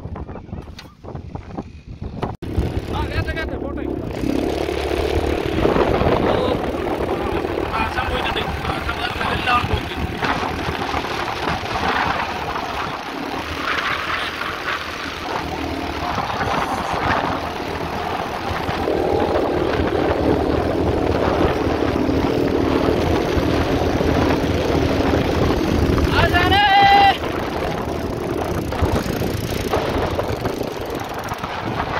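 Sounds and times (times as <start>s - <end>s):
quad bike engines droning: 0.0s - 31.9s.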